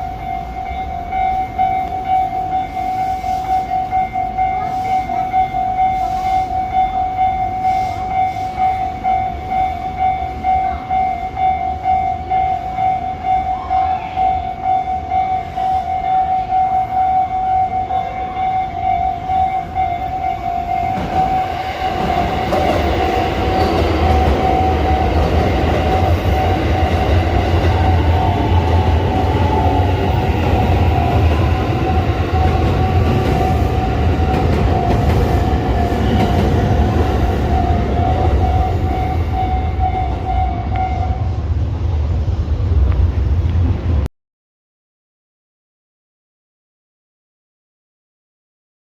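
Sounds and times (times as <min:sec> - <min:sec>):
level-crossing warning bell: 0:00.0 - 0:41.6
train rumble and rail noise: 0:00.0 - 0:44.1.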